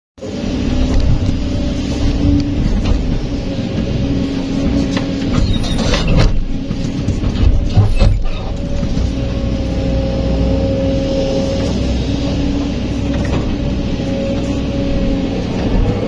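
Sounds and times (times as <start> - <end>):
excavator engine and hydraulics: 0.2 - 16.0.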